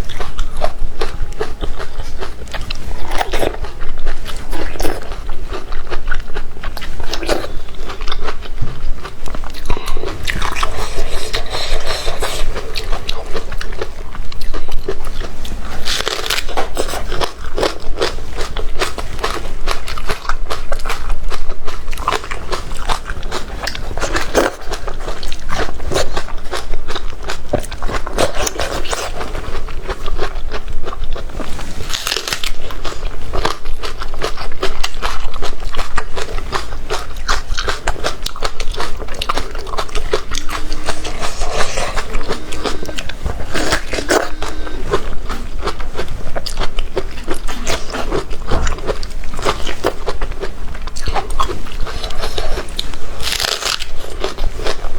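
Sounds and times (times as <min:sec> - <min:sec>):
chewing crunchy food: 0:00.0 - 0:54.9.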